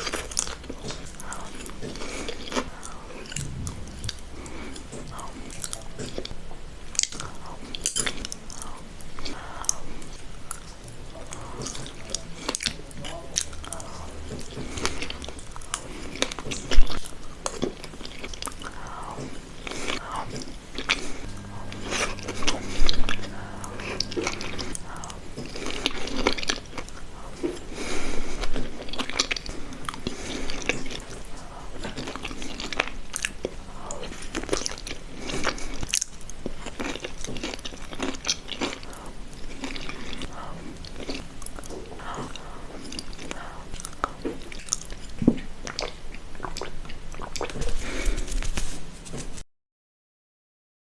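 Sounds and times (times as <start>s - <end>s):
biting and crunchy chewing: 0.0s - 48.6s.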